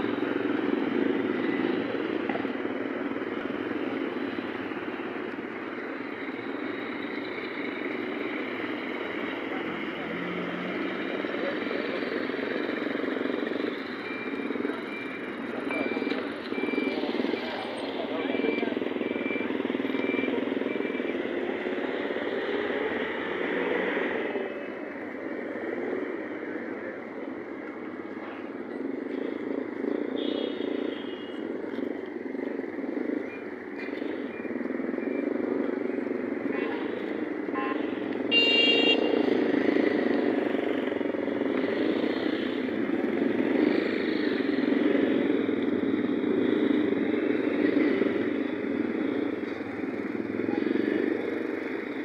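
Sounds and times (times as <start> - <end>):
motorcycles driving past: 0.0 - 52.0
road traffic passing: 0.0 - 52.0.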